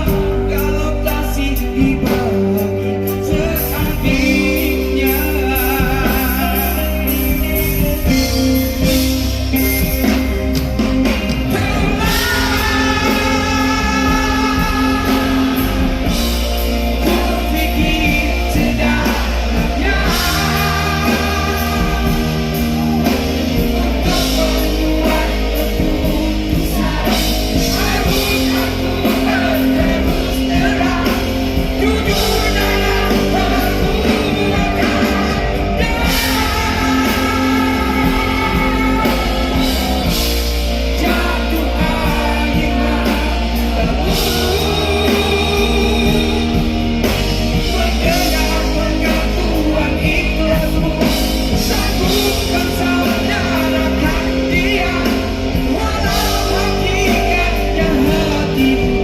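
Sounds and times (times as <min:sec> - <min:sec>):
bass guitar: 0:00.0 - 0:59.0
drums: 0:00.0 - 0:59.0
electric guitar: 0:00.0 - 0:59.0
lead vocal singing: 0:00.0 - 0:59.0.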